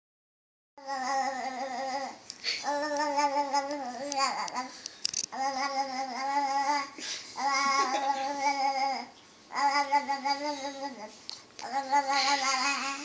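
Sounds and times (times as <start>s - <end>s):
child making held vocal sounds: 0.8s - 13.0s.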